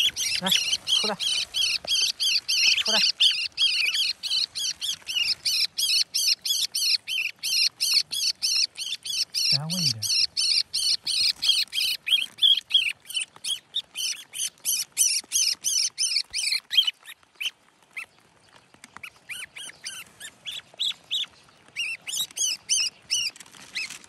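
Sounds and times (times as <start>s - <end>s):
fledgling bird chirping: 0.0s - 24.0s.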